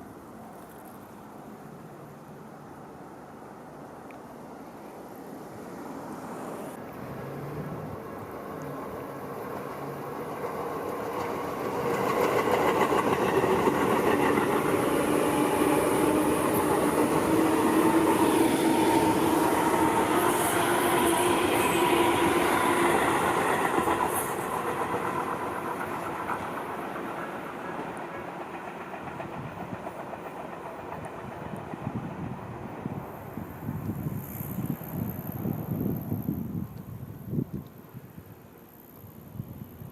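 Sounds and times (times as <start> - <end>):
electric train running past: 0.0 - 39.9.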